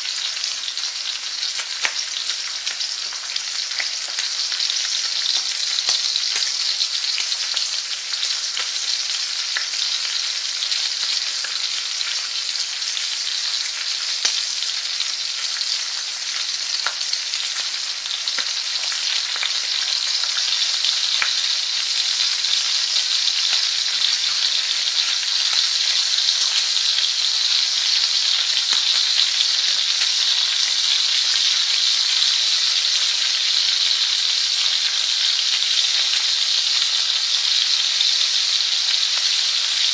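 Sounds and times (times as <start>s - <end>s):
food frying: 0.0s - 39.9s.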